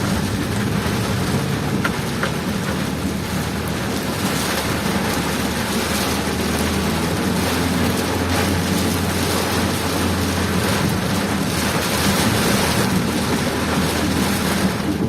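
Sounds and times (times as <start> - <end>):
heavy rain: 0.0 - 15.0
vehicle engine and road rumble: 0.0 - 15.0
wind noise: 0.0 - 15.0.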